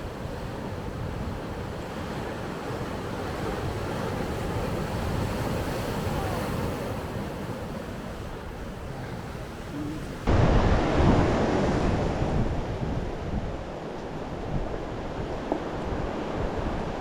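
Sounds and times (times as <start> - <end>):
sea waves washing onto shore: 0.0 - 17.0
wind buffeting microphone: 0.0 - 17.0.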